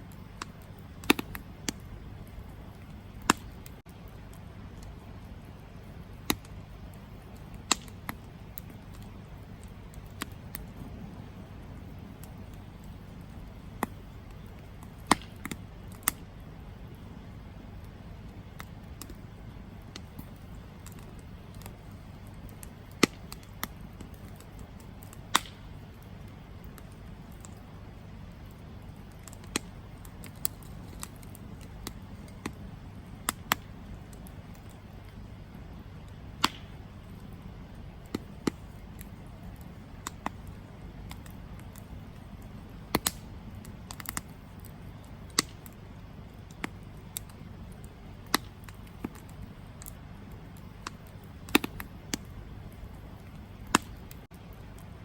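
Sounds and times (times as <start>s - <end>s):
campfire crackles and pops: 0.0s - 55.0s
steady low rumble: 0.0s - 55.0s.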